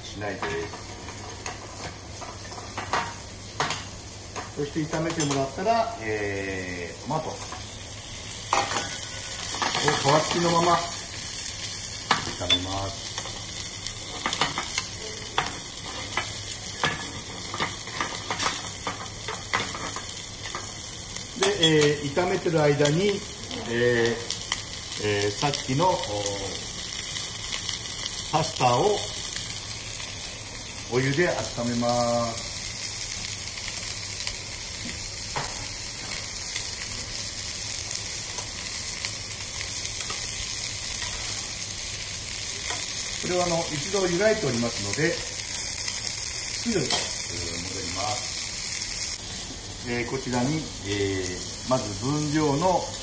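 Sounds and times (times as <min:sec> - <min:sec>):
food sizzling in frying pan: 0:00.0 - 0:53.0.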